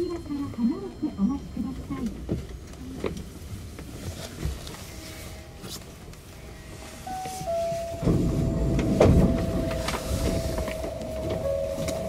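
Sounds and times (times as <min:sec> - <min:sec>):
low monorail cabin rumble: 0:00.0 - 0:12.0.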